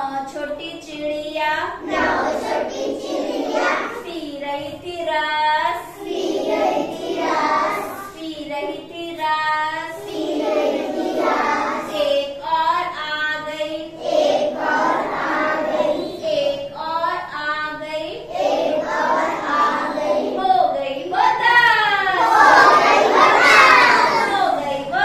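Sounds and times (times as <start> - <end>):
children singing a rhyme: 0.0 - 25.0.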